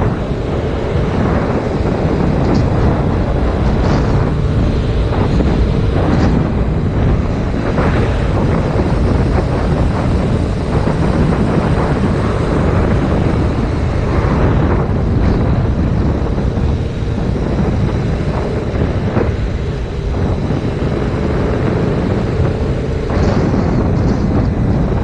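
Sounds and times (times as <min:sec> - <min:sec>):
motorcycle engine running: 0:00.0 - 0:25.0
wind rushing on microphone: 0:00.0 - 0:25.0.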